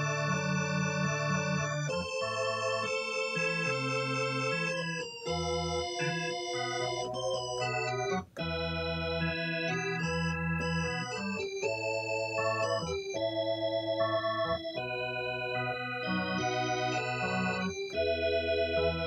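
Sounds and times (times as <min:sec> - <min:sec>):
electronic organ chords: 0:00.0 - 0:19.0.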